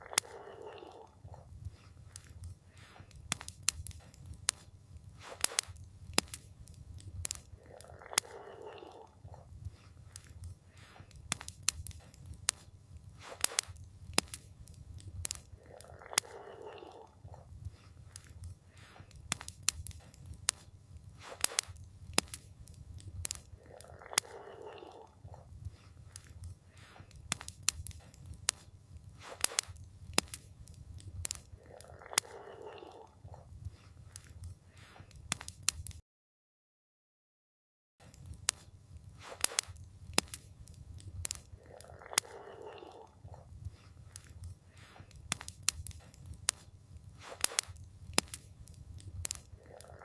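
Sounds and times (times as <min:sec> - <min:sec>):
campfire crackling and popping: 0:00.0 - 0:36.0, 0:38.0 - 0:50.0.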